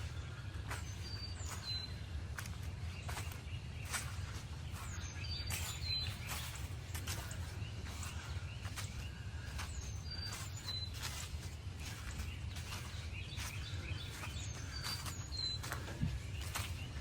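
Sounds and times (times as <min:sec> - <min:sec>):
footsteps crunching on forest floor: 0:00.0 - 0:17.0
low wind rumble: 0:00.0 - 0:17.0.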